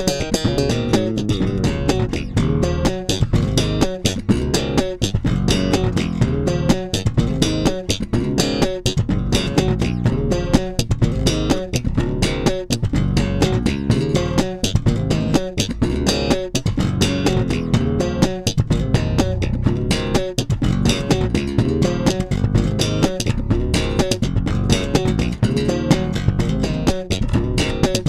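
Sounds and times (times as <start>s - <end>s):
electric bass guitar plucked: 0.0s - 28.0s.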